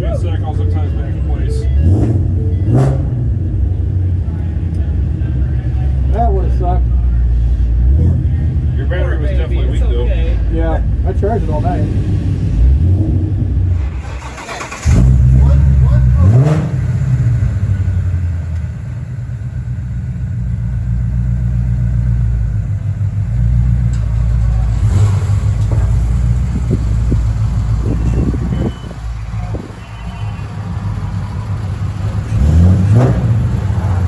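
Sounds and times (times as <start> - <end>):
engine revving: 0.0 - 5.5, 6.4 - 18.8, 23.0 - 34.0
car engine idling: 0.0 - 34.0.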